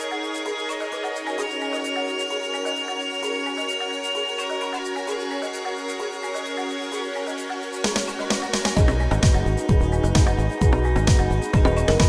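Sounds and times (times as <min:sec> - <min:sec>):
sustained chord music: 0:00.0 - 0:12.0.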